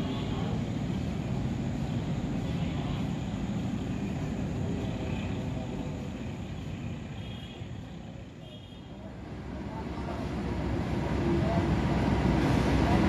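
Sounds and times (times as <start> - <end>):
train wheels rumbling on rails: 0.0 - 8.2, 9.0 - 13.0.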